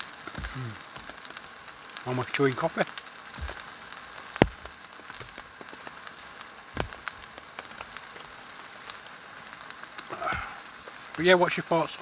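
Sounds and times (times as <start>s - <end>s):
rain pattering on a tarp: 0.0s - 12.0s.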